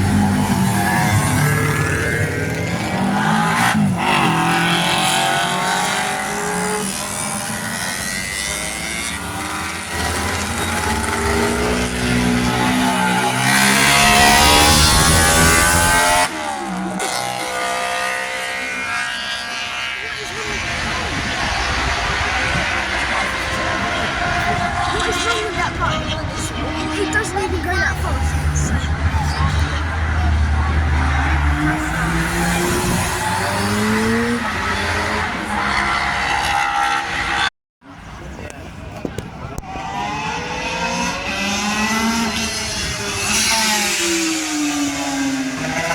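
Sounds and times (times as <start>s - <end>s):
motorcycles racing past: 0.0s - 37.5s, 39.4s - 45.9s.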